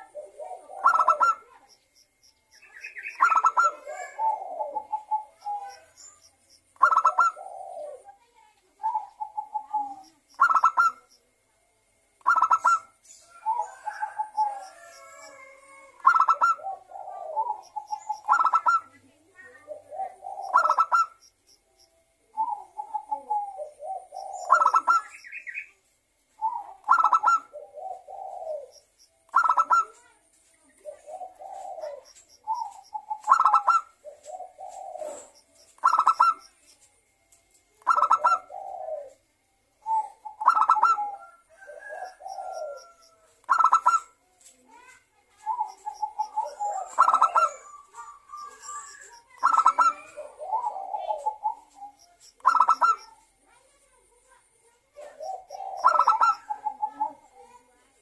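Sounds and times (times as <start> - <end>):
doves cooing: 0.0 - 2.2, 2.9 - 6.0, 6.6 - 8.1, 8.8 - 11.2, 12.2 - 21.2, 22.3 - 25.5, 26.4 - 30.0, 30.8 - 36.6, 37.8 - 44.2, 45.4 - 53.4, 54.9 - 57.5.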